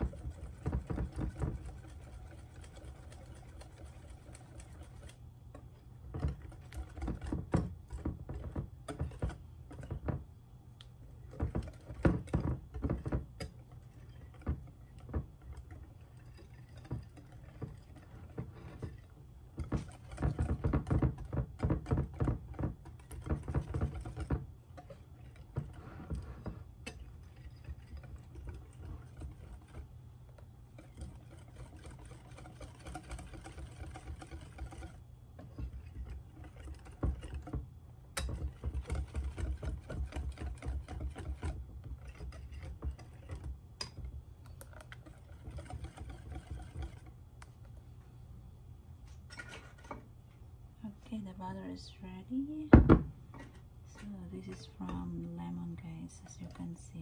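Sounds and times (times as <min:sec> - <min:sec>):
soft stirring of batter: 0:00.0 - 0:57.0.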